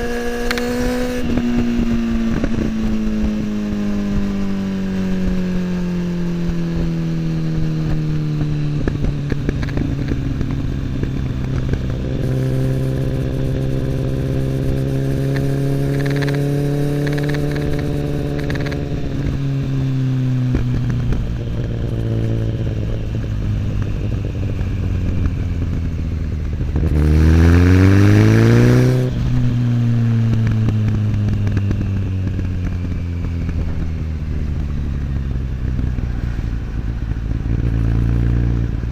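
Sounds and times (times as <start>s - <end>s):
motorcycle engine accelerating hard: 0.0s - 38.9s
motorcycle engine cruising: 0.0s - 38.9s.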